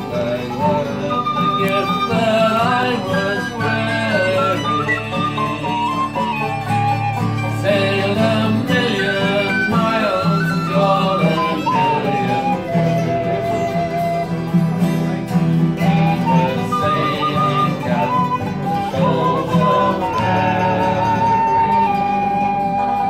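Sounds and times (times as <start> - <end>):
harmonica: 0.0 - 23.0
mandolin: 0.0 - 23.0
strummed guitar: 0.0 - 23.0
tin whistle: 0.0 - 23.0.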